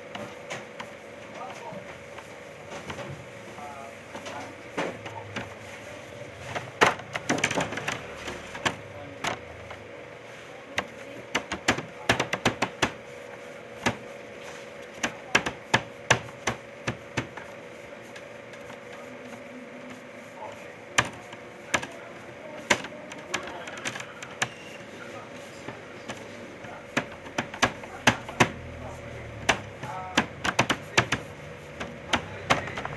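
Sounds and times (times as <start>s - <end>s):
steady hum: 0.0s - 32.9s
dough slapping on table: 4.3s - 9.8s, 10.6s - 32.9s.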